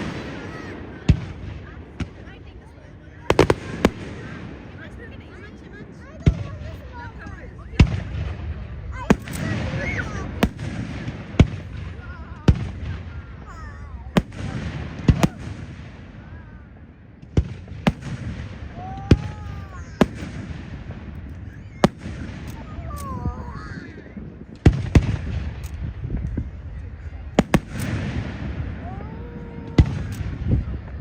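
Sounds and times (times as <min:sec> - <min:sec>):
crowd voices: 0:00.0 - 0:31.0
fireworks bangs overhead: 0:00.0 - 0:31.0.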